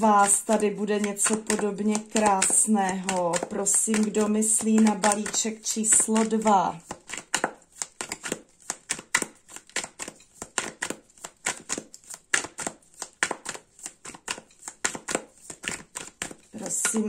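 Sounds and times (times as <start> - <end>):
cards being shuffled: 0.2 - 17.0.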